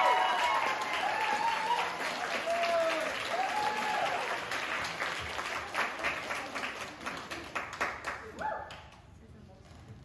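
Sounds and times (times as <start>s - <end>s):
small audience applauding: 0.0s - 9.1s.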